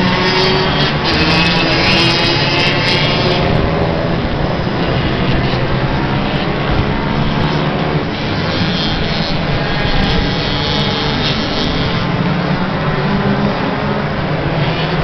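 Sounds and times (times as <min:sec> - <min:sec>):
moped engines revving high: 0:00.0 - 0:15.0.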